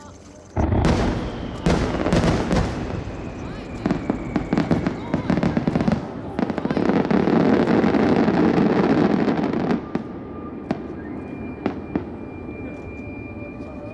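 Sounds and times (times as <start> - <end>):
fireworks bangs and crackling: 0.0 - 13.9.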